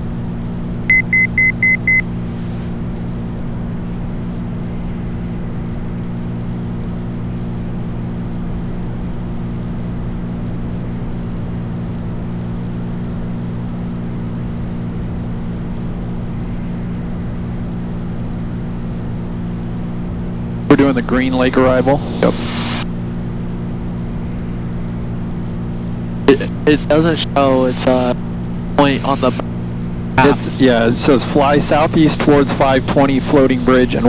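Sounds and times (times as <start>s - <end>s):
propeller plane engine droning: 0.0s - 34.0s.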